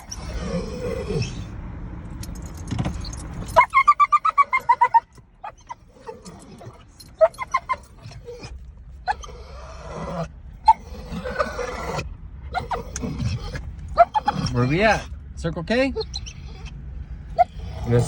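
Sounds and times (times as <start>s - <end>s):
dog grumbling rhythmically: 0.0s - 1.5s, 3.5s - 15.2s, 15.9s - 18.0s
car engine humming: 0.0s - 18.0s.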